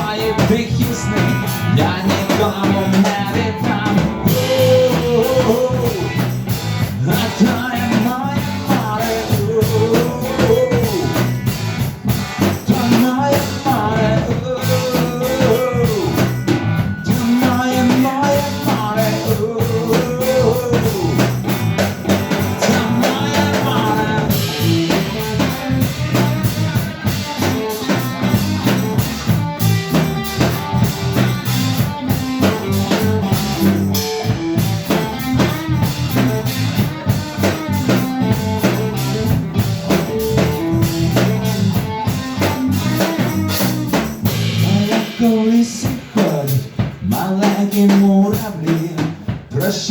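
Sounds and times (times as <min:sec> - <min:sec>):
drum kit beat: 0:00.0 - 0:49.9
guitar: 0:00.0 - 0:49.9.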